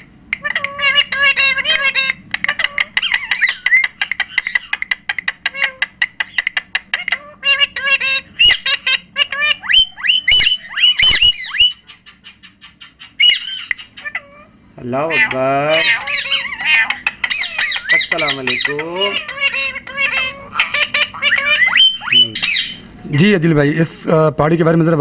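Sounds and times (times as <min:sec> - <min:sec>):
parrots squawking: 0:00.0 - 0:23.4.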